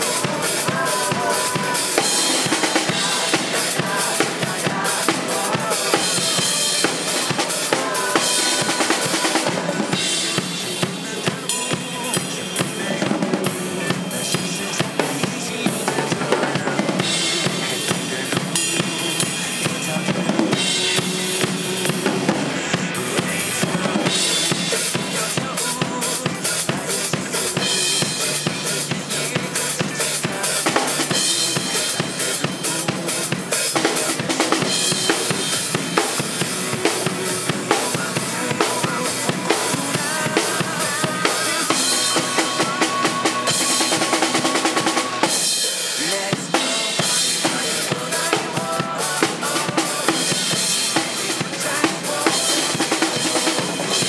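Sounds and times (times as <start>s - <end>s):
acoustic drum kit playing: 0.0s - 54.0s
pop-rock backing track: 0.0s - 54.0s.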